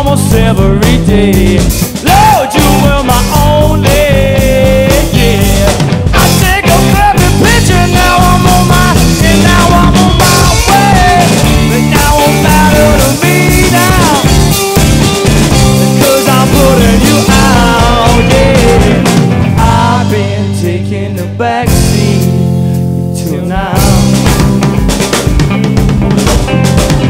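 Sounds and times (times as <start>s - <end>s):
lead guitar line bending: 0.0s - 27.0s
rock band playing: 0.0s - 27.0s.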